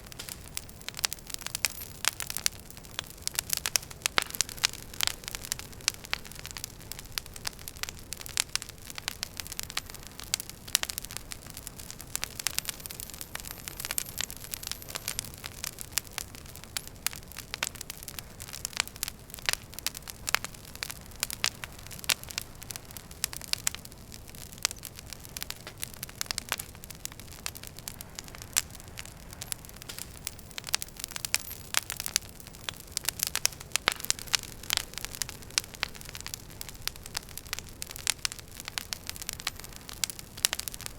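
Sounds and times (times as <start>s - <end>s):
flames rushing: 0.0s - 40.9s
wood fire crackling: 0.0s - 40.9s.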